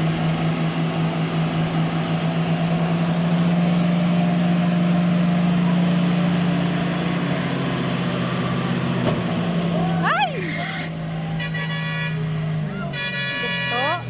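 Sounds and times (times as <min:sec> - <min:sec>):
heavy truck engine running: 0:00.0 - 0:14.0.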